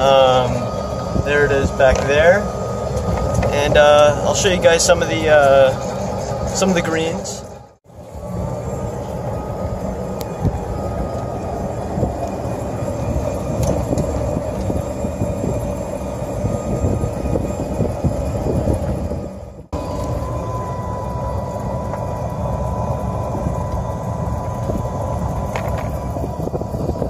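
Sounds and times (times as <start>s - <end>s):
golf cart rumbling: 0.0s - 27.0s
thin steady whine: 0.0s - 27.0s.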